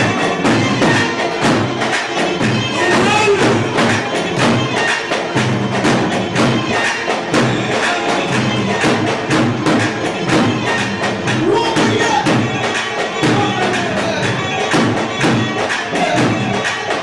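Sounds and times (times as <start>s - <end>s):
pitched melody line: 0.0s - 16.6s
hand percussion beat: 0.0s - 17.0s.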